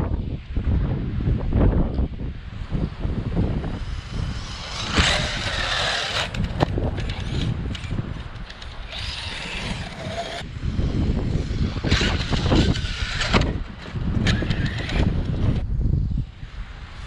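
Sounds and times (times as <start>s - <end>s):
wind rumble on microphone: 0.0s - 17.0s
rc car motor and tyres hissing: 2.6s - 17.0s.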